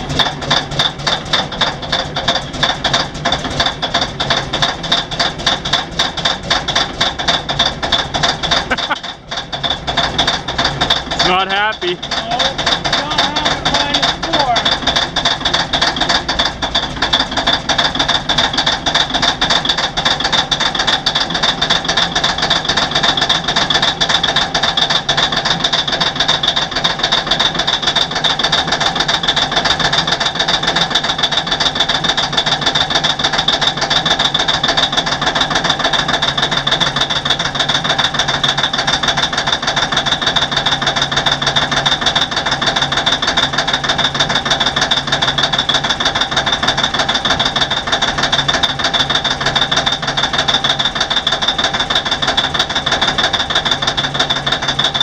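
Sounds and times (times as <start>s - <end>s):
diesel engine cranking on starter: 0.0s - 55.0s.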